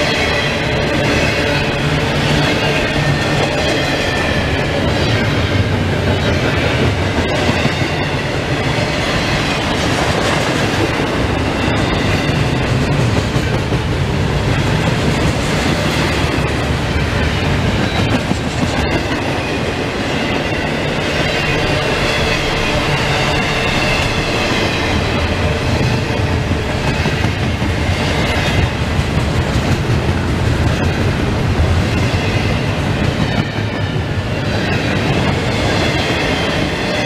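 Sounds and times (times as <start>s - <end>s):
freight train rumbling past: 0.0s - 37.0s
steel wheels clacking on rails: 0.0s - 37.0s.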